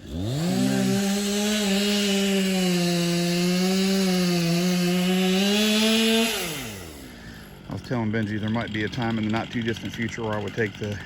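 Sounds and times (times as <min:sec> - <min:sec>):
chainsaw at full throttle: 0:00.0 - 0:11.0.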